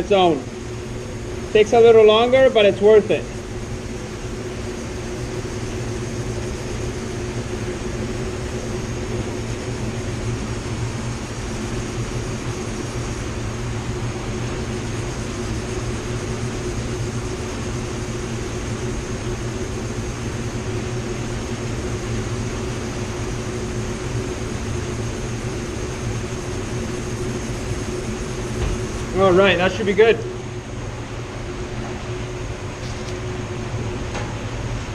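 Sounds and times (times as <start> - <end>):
ventilation fans droning: 0.0 - 34.9.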